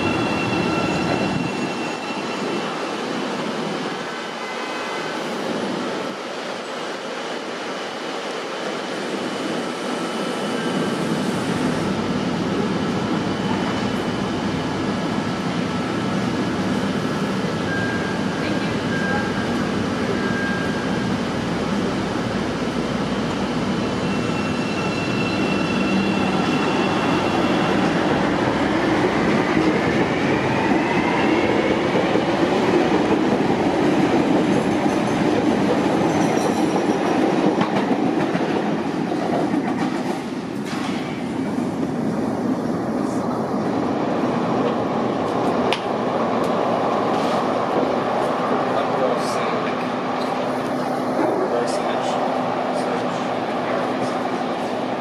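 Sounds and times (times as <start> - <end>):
train running on track: 0.0 - 55.0.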